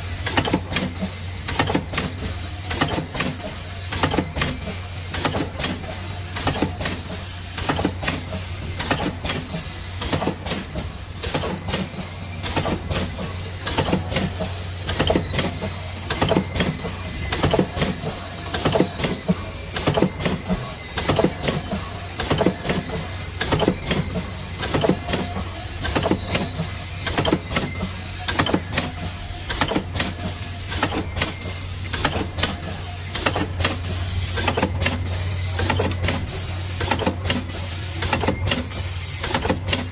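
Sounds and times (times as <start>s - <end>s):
packing machine clattering: 0.0s - 39.9s.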